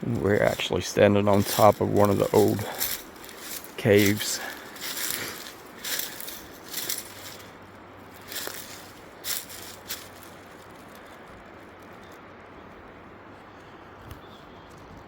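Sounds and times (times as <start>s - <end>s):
footsteps through dry leaves: 0.0s - 12.2s
faint outdoor hiss: 0.0s - 15.0s.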